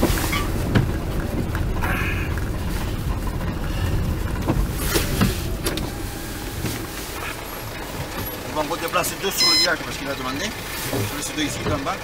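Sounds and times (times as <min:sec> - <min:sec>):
vehicle driving on snow: 0:00.0 - 0:12.0.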